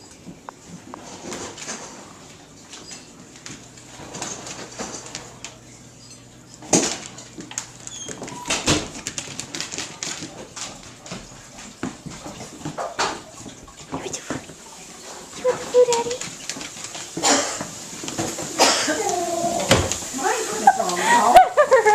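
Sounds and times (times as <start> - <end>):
dogs moving about: 0.6 - 21.2.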